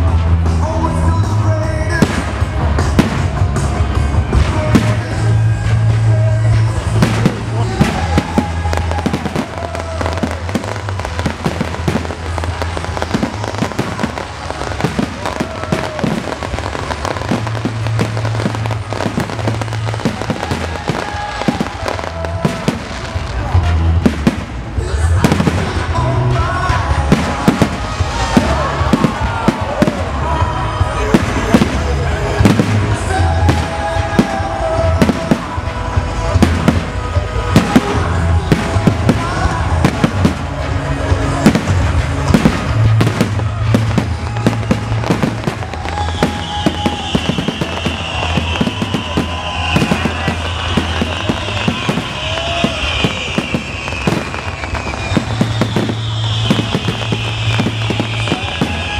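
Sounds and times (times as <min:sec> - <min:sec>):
music: 0:00.0 - 0:58.9
fireworks bangs: 0:01.8 - 0:58.9.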